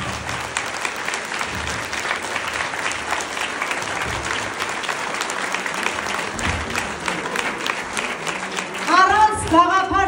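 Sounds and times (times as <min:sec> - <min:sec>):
children clapping: 0:00.0 - 0:10.0.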